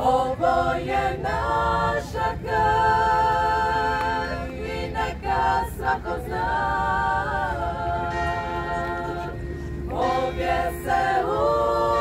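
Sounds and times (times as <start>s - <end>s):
women singing in close harmony: 0.0s - 12.0s.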